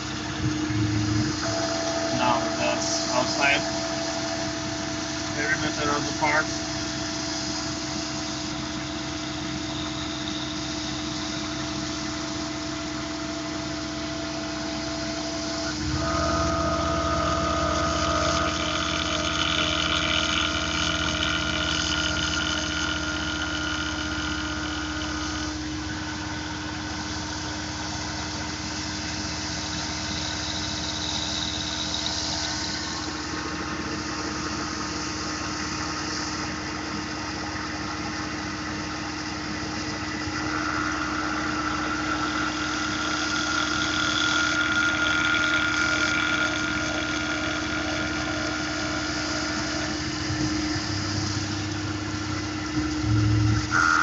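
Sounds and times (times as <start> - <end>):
high machine whine: 0.0 - 54.0
milling machine humming: 0.0 - 54.0.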